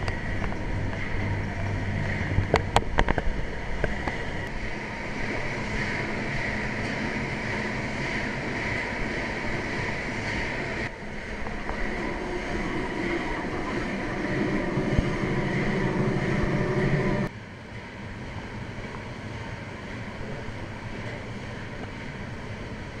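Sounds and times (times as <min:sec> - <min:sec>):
even rushing noise: 0:00.0 - 0:23.0
steam engine running: 0:00.0 - 0:23.0.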